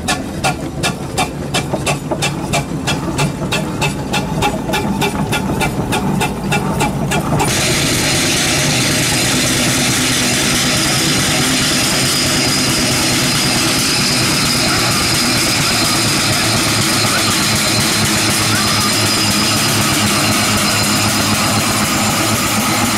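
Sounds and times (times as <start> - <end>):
engine rumble with hiss: 0.0 - 22.9
steam traction engine chuffing: 0.0 - 22.9.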